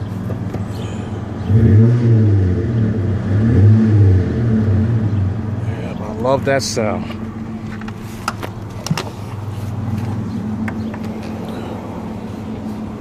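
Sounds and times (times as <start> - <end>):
car engine idling: 2.5 - 13.0.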